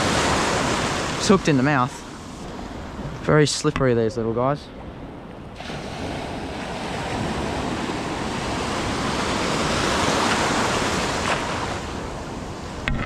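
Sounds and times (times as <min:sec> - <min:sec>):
wave washing in: 0:00.0 - 0:03.4, 0:04.6 - 0:12.9.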